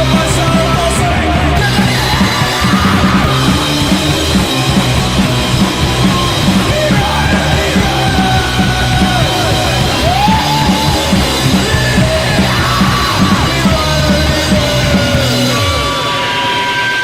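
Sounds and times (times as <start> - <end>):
bass guitar: 0.0 - 16.2
distorted guitar: 0.0 - 17.0
driving drums: 0.0 - 17.0
punk rock band playing: 0.0 - 17.0.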